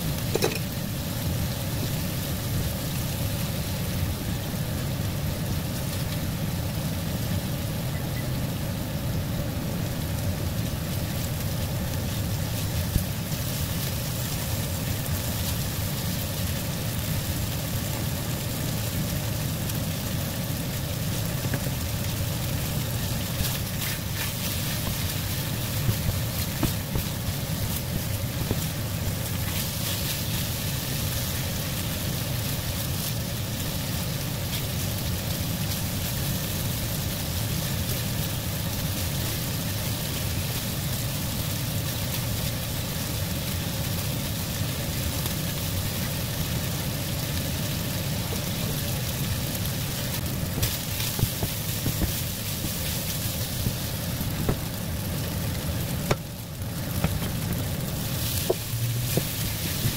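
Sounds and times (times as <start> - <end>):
meat sizzling in a pan: 0.0 - 59.9
steady low hum: 0.0 - 59.9.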